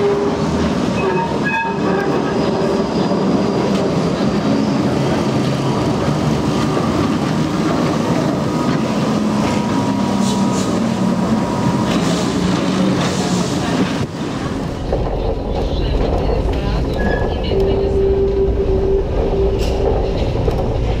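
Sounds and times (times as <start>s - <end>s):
tram rolling on rails: 0.0s - 21.0s.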